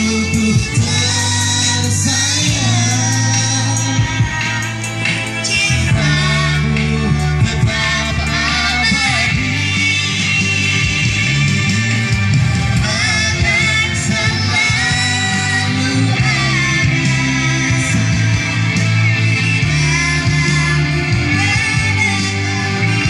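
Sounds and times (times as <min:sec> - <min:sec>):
person singing: 0:00.0 - 0:10.9, 0:12.8 - 0:23.0
band with guitar: 0:00.0 - 0:23.0.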